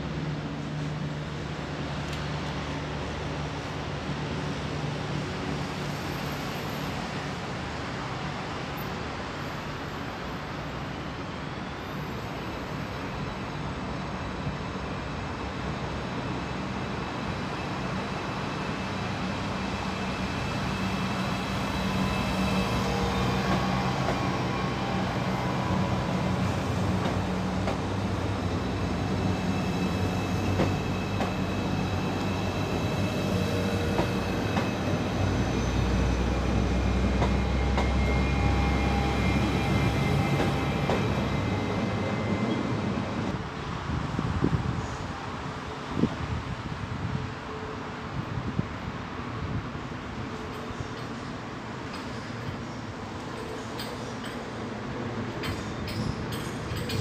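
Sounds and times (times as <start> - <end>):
passenger train approaching: 0.0 - 57.0.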